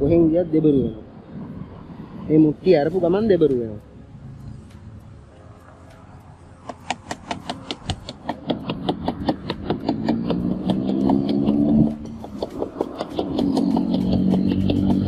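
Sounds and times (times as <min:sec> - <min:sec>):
vehicle engine hum: 0:00.0 - 0:15.0
rapid even ticks: 0:02.6 - 0:15.0.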